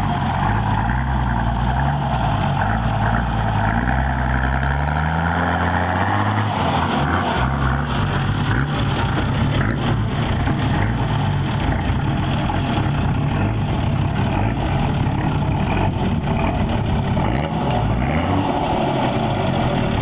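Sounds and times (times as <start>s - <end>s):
diesel engine at low revs: 0.0s - 20.0s.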